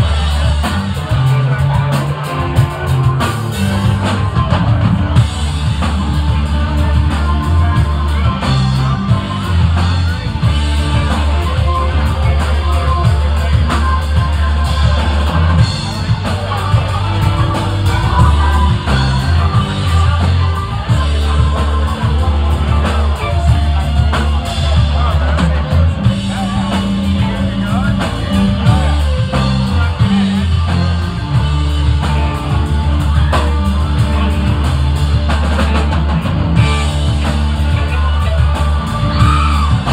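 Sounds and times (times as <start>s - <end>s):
drum kit: 0.0s - 39.9s
electric guitars: 0.0s - 39.9s.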